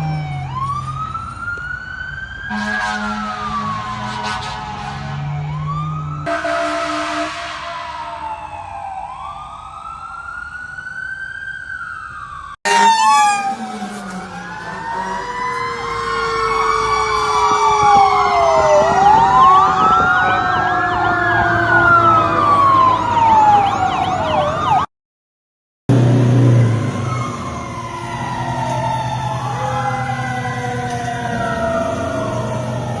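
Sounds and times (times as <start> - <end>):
fire truck sirens wailing: 0.0 - 24.9, 25.9 - 33.0.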